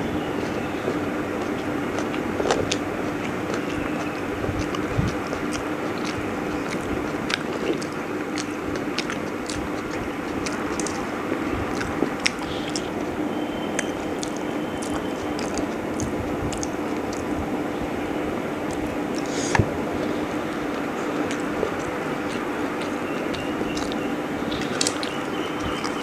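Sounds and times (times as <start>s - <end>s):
background hum: 0.0s - 26.0s
chewing and wet mouth clicks: 0.3s - 17.4s, 18.6s - 26.0s.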